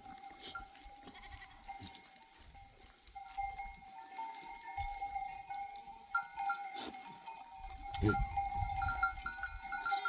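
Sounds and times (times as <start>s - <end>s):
sheep bells ringing: 0.0s - 10.0s.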